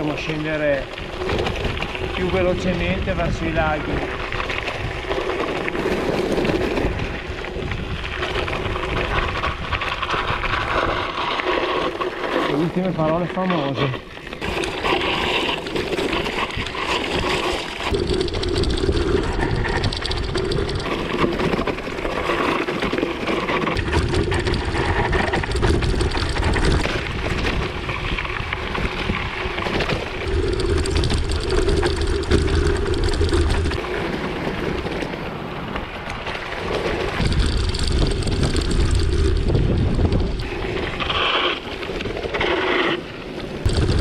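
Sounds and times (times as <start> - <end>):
bike tyres crunching on gravel: 0.0 - 44.0
wind on microphone: 0.0 - 44.0.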